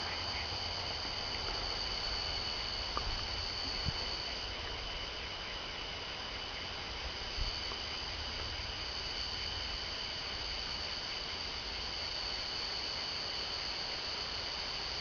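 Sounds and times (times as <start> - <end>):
low rumbling hiss: 0.0 - 15.0
night insects trilling: 0.0 - 15.0.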